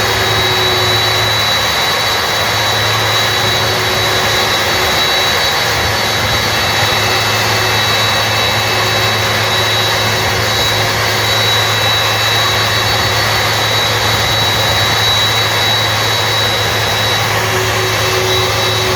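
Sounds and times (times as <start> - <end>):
jet engines running: 0.0 - 18.9.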